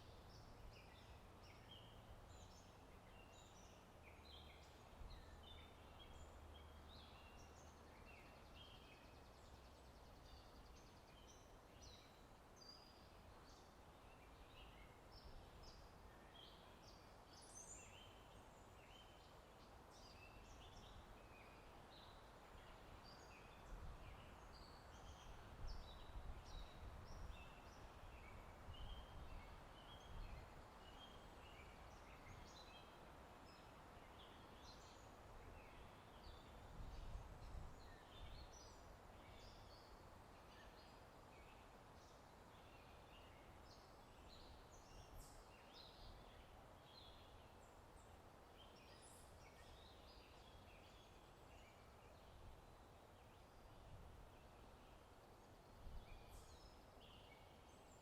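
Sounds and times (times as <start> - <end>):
small birds chirping: 0.0 - 58.0
wind in trees: 0.0 - 58.0.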